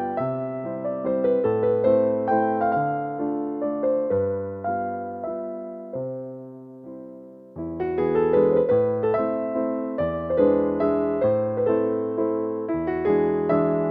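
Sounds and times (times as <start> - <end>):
soft piano music: 0.0 - 13.9.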